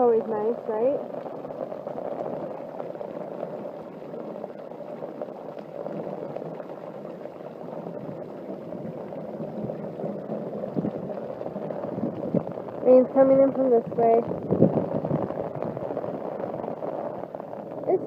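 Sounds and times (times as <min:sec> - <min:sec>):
heavy rain pouring and splashing: 0:00.0 - 0:18.0.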